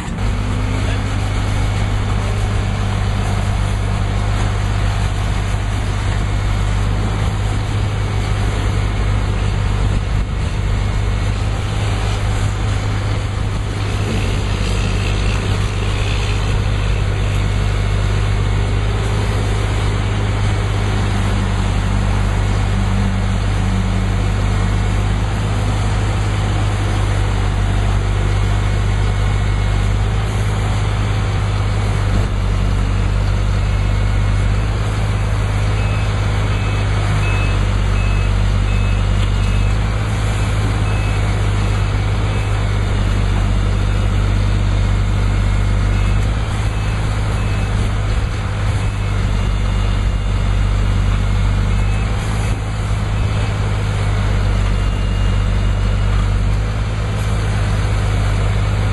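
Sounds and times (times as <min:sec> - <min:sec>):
truck engine humming: 0:00.0 - 0:58.9.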